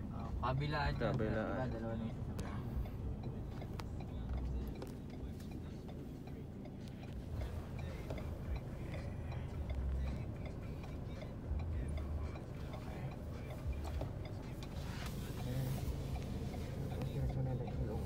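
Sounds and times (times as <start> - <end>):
car engine running low: 0.0 - 18.0
faint regular ticking: 0.0 - 18.0.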